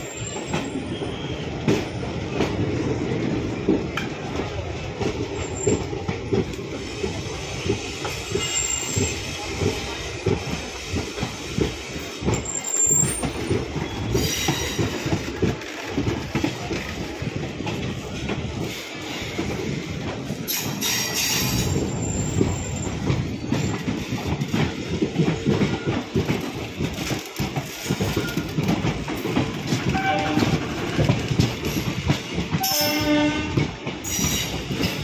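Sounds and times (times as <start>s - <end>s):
train wheels clattering over rail joints: 0.0s - 35.0s.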